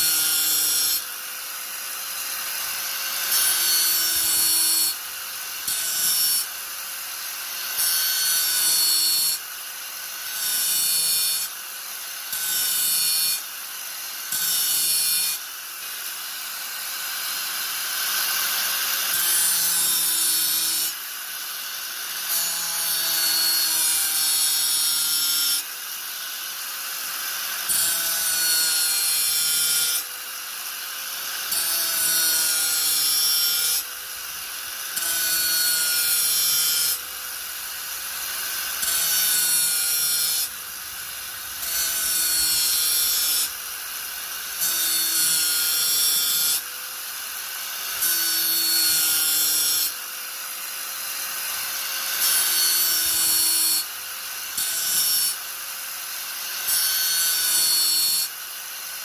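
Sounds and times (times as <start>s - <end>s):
grinder hissing grind on wood: 0.0s - 59.0s.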